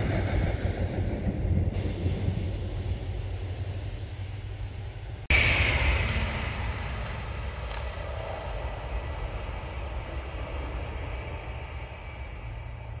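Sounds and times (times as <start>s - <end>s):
electric train passing: 0.0s - 13.0s.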